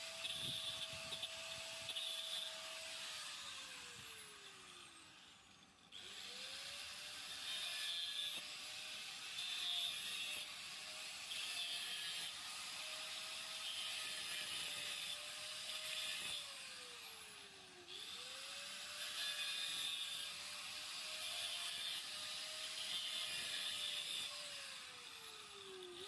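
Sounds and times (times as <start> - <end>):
small motor whirring: 0.0 - 26.0.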